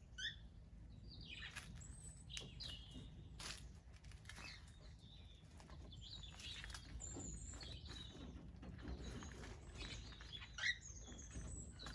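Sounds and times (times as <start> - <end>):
birds chirping and whistling: 0.0 - 11.9.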